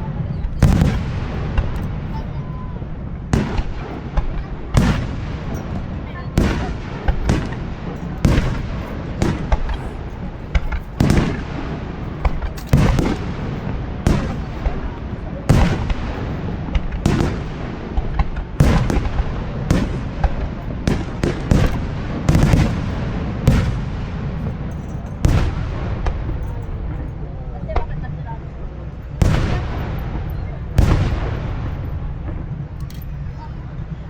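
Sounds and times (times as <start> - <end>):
firework shells booming: 0.0 - 28.0, 28.6 - 33.4
low rumbling: 0.0 - 34.0.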